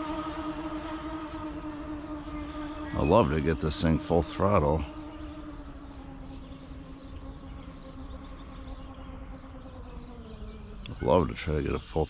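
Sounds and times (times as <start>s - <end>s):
electric motor whine: 0.0s - 11.2s.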